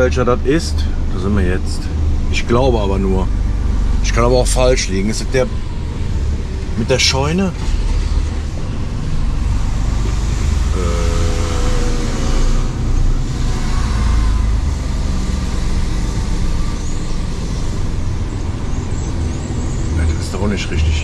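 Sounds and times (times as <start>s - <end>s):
truck diesel engine drone: 0.0s - 21.0s
whining tone: 2.7s - 21.0s.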